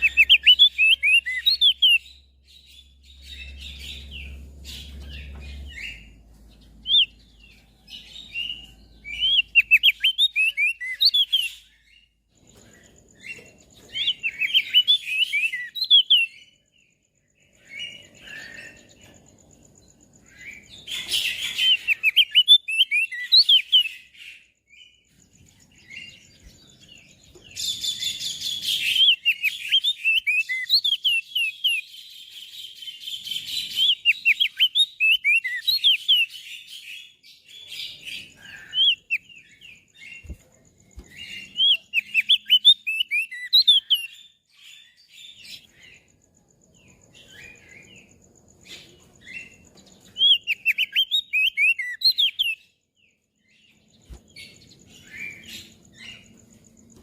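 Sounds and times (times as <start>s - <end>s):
bird singing high chirps: 0.0s - 57.0s.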